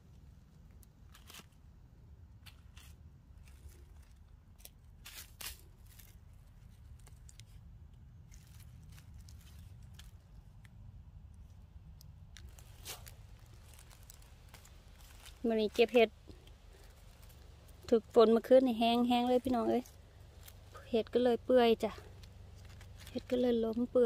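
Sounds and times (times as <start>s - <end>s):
low steady rumble: 0.0s - 24.0s
dry leaves crackling and rustling: 2.4s - 10.7s, 12.3s - 24.0s.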